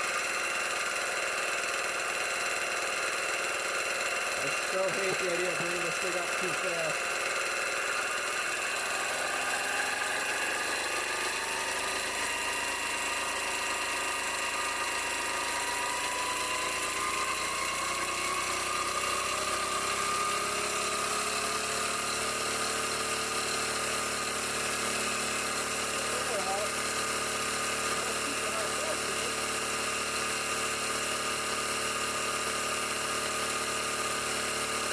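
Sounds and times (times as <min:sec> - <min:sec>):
air compressor whine rising: 0:00.0 - 0:34.9.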